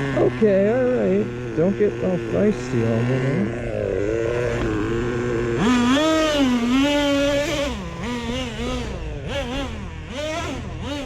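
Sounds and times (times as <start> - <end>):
model truck engine revving: 0.0 - 11.0.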